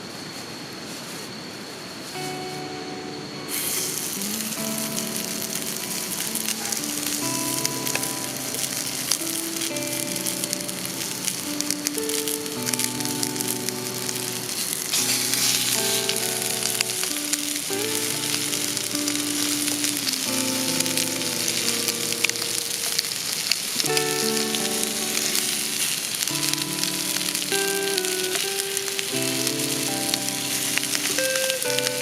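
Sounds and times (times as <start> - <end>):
background music of sustained chords: 1.8 - 32.0
wings sizzling in frying oil: 3.5 - 32.0.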